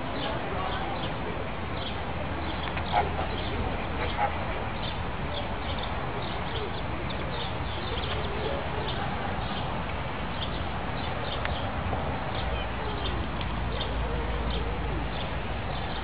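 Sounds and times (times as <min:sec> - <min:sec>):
constant background noise: 0:00.0 - 0:16.0.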